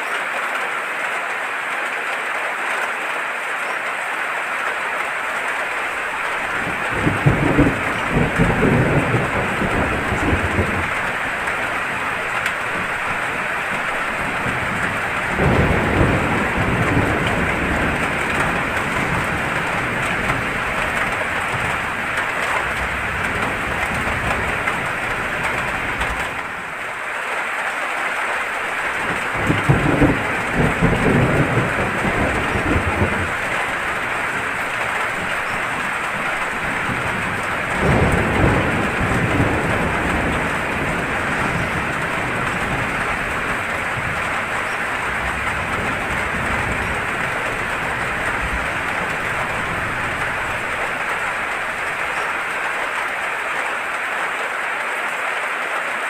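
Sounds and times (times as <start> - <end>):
heavy rain: 0.0 - 56.0
rolling thunder: 5.9 - 27.0, 28.4 - 53.0.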